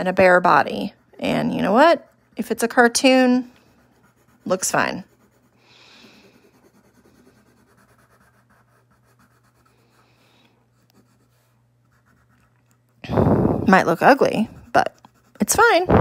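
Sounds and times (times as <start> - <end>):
pencil scratching on paper: 0.0 - 13.0, 13.6 - 16.0.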